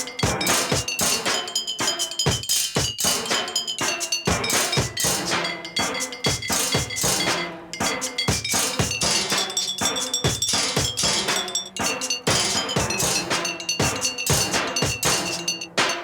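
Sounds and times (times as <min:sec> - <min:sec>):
metal cans struck rhythmically: 0:00.0 - 0:16.0.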